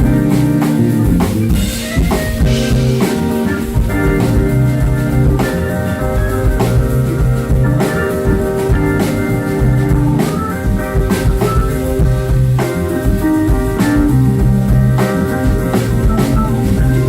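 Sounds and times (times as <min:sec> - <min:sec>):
drums striking backbeat: 0:00.0 - 0:17.0
live band playing: 0:00.0 - 0:17.0
organ chords: 0:00.0 - 0:17.0.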